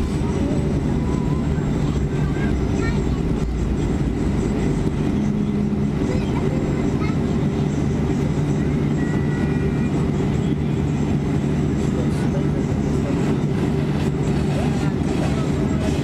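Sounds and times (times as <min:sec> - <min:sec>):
jet engines idling in cabin: 0:00.0 - 0:16.0.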